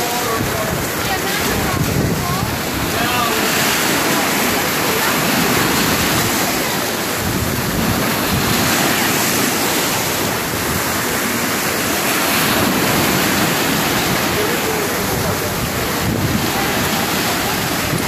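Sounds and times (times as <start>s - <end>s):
small waves breaking on beach: 0.0s - 18.0s
wind rumbling on microphone: 0.0s - 18.0s.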